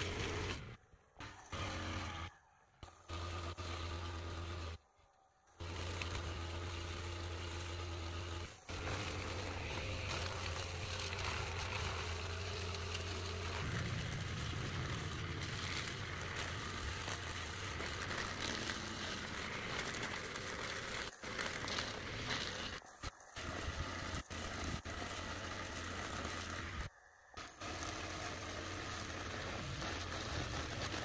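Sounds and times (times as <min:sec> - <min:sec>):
brush cutter engine running: 0:00.0 - 0:31.0
cutter cutting through grass: 0:00.0 - 0:31.0.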